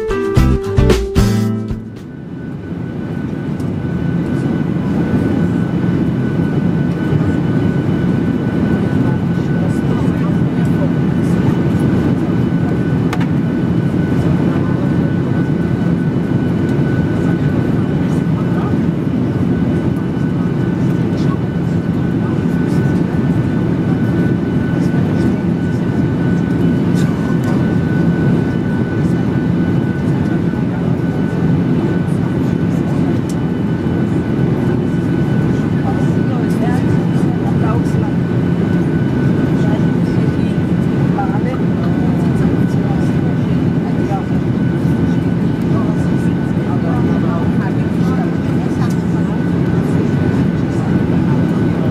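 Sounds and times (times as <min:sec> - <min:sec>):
airplane engines and airflow rumble: 0:01.6 - 0:51.9
aircraft cabin air rush and jet drone: 0:02.0 - 0:51.9.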